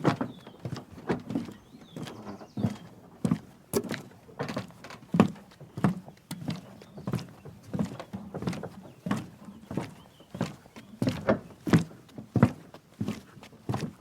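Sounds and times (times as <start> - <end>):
footsteps on wooden dock: 0.0 - 14.0.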